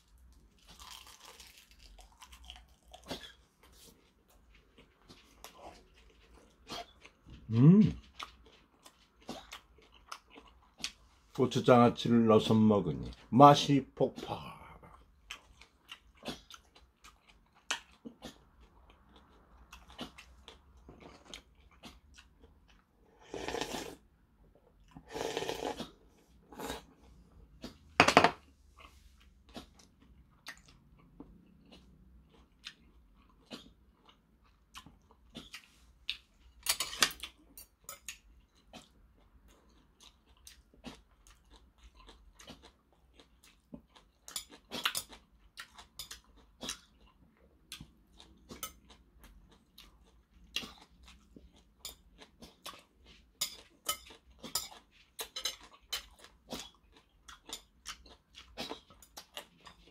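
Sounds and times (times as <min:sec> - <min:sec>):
man chewing food: 0:00.0 - 0:11.4, 0:14.0 - 0:59.9.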